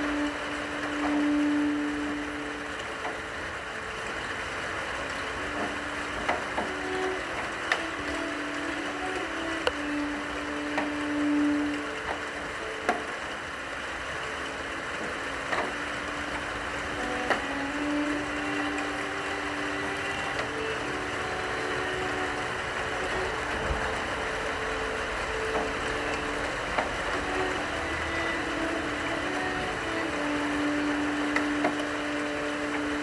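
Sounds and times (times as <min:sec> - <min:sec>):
long-held cello notes: 0:00.0 - 0:33.0
rain hiss: 0:00.0 - 0:33.0.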